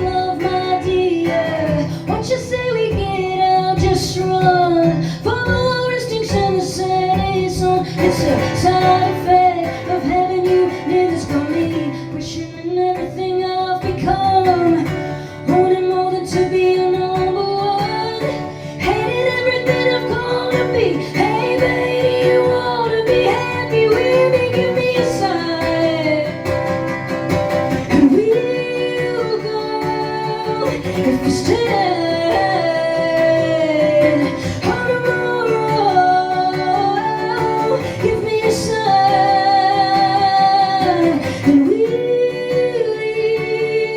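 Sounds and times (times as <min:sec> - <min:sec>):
guitar accompaniment: 0:00.0 - 0:43.9
woman singing: 0:00.0 - 0:43.9.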